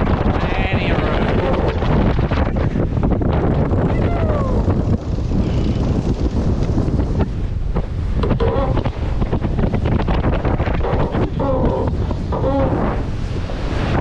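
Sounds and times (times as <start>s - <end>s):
water rushing along hulls: 0.0s - 14.0s
wind buffeting microphone: 0.0s - 14.0s.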